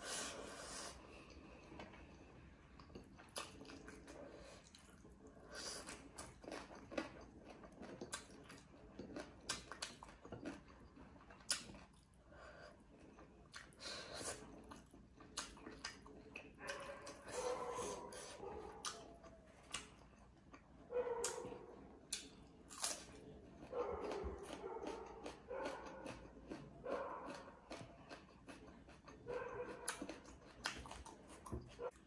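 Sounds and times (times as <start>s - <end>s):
close-miked chewing: 0.0s - 32.0s.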